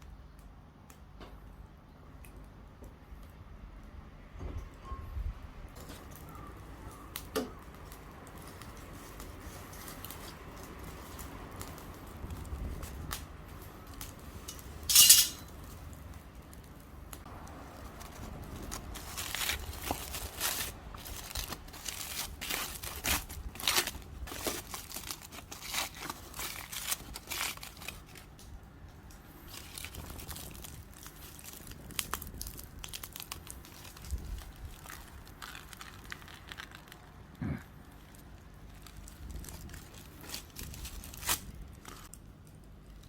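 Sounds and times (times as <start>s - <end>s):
crinkling and tearing: 5.8s - 43.0s.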